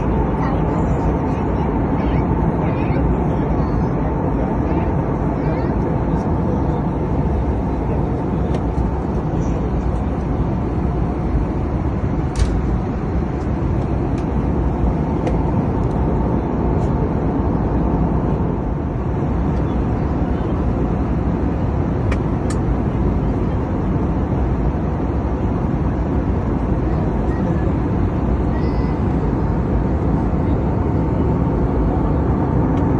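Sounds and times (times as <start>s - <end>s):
jet engine cabin rumble: 0.0s - 32.9s.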